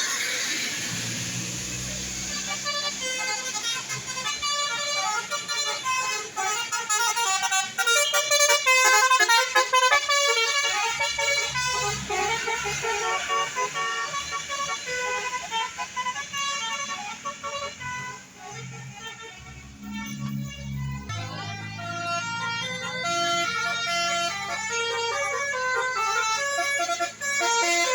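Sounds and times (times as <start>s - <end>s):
musical air horn: 1.4s - 27.9s.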